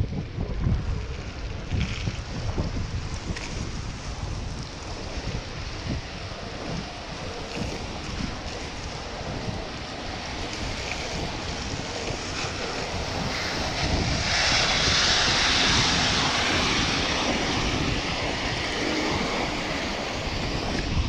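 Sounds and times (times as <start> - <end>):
wet road noise: 0.0 - 21.0
wind rushing: 0.0 - 21.0.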